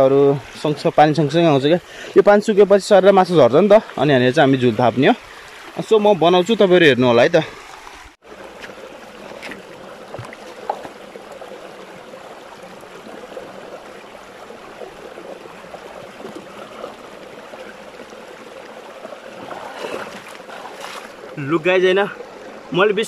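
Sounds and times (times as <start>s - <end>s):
stream babbling over stones: 0.0s - 23.0s.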